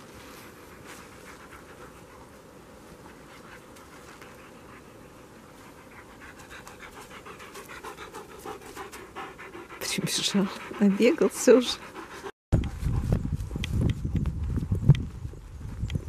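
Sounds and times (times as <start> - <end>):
dog panting: 0.4 - 14.9.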